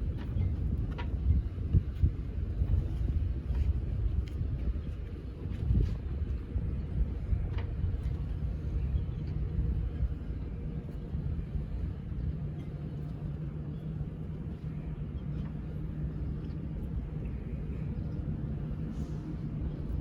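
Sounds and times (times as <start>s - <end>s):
boat engine rumbling: 0.0s - 20.0s
faint steady hum: 0.0s - 20.0s.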